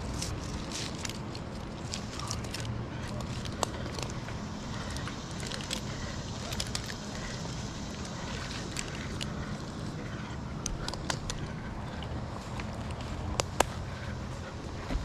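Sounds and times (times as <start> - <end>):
sharp clicks and crackles: 0.0 - 13.8.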